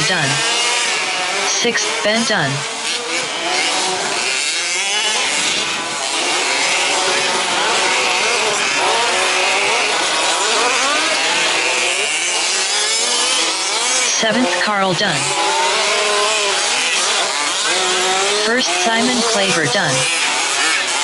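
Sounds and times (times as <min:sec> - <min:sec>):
rc truck engines revving: 0:00.0 - 0:21.0.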